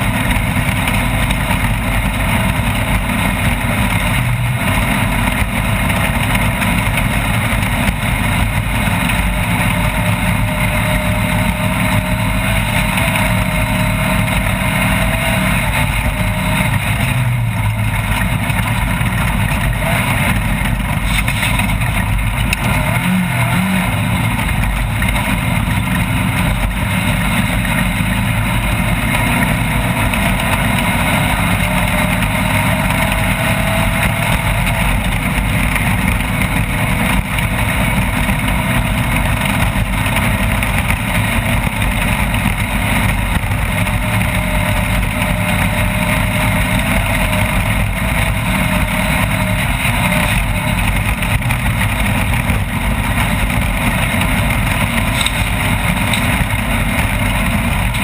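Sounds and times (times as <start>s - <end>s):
race vehicle engine running hard: 0.0s - 58.0s.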